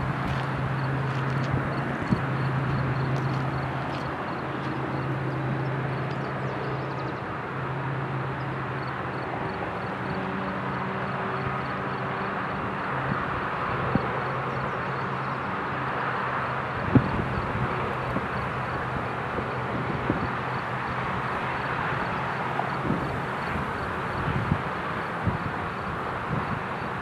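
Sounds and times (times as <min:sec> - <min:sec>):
diesel locomotive drone: 0:00.0 - 0:27.0
freight cars rumbling on rails: 0:00.0 - 0:27.0.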